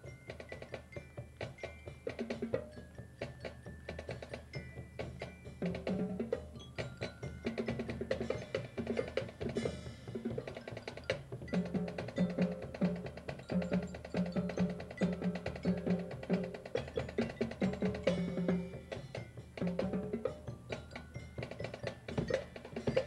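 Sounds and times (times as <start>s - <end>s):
marching band drums and mallets: 0.0s - 23.0s.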